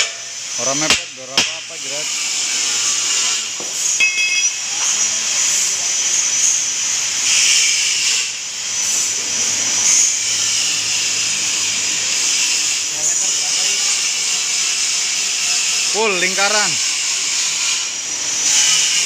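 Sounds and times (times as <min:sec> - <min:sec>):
plate rolling machine hissing: 0:00.0 - 0:19.0
high machine squeal: 0:01.8 - 0:19.0.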